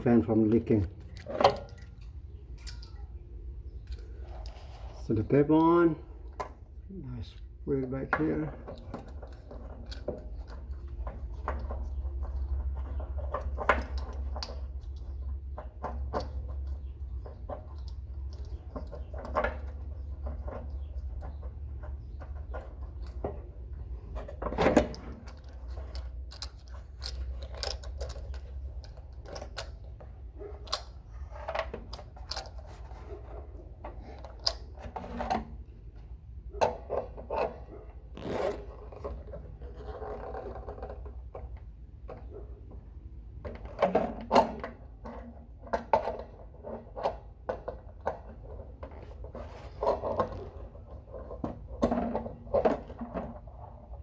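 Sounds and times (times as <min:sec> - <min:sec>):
metallic clicks and scrapes: 0:07.9 - 0:42.4, 0:43.4 - 0:54.0.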